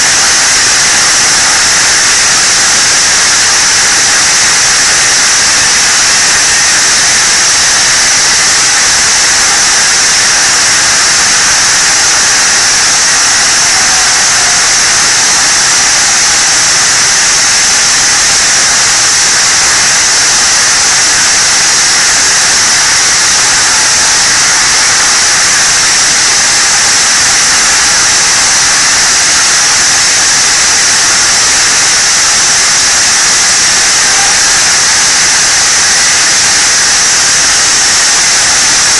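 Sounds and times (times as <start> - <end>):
loud steady hissing: 0.0 - 38.9.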